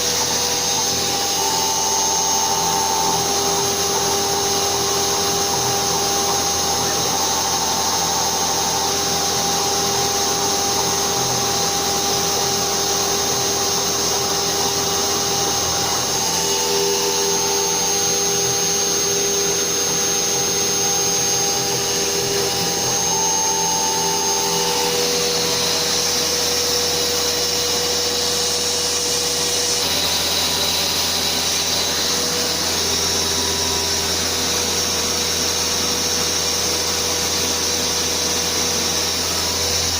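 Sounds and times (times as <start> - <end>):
router spindle running: 0.0 - 39.9
stepper motor whine: 0.0 - 39.9
vacuum running: 0.0 - 39.9.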